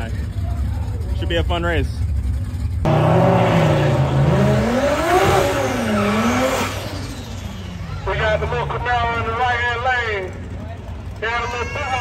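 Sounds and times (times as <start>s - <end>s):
drag car engine revving: 0.0s - 11.3s.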